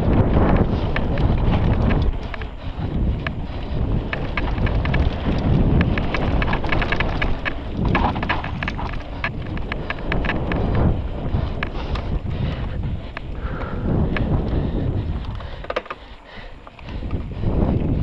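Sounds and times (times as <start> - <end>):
bike clicking and rattling: 0.0 - 18.0
wind on microphone: 0.0 - 18.0.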